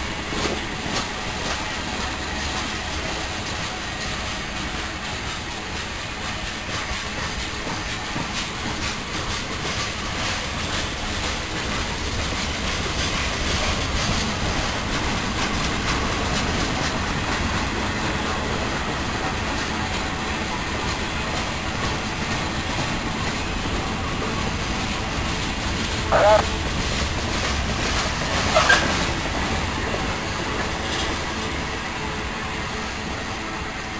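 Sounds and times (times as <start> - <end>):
train wheels rumbling on rails: 0.0 - 33.9
wheels clicking over rail joints: 0.3 - 31.6.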